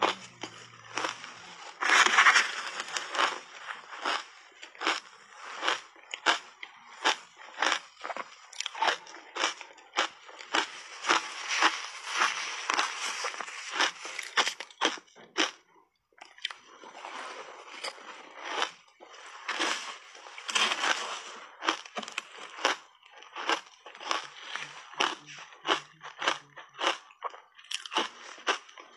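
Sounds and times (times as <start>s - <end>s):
ice crunching while chewed: 0.0s - 28.9s.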